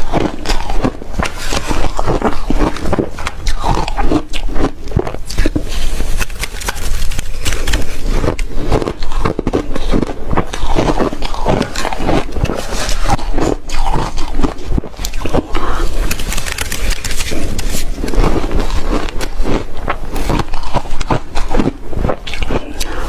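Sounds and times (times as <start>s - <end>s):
chewing shaved ice: 0.0s - 23.0s.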